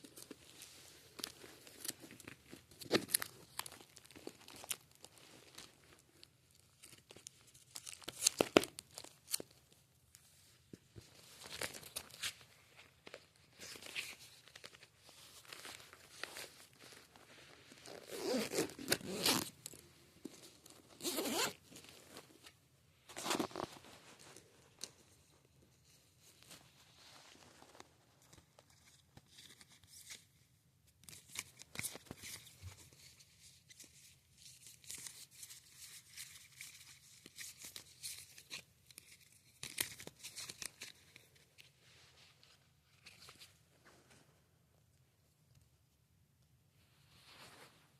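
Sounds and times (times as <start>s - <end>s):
plastic and card rustling: 0.0s - 30.4s, 31.0s - 44.0s.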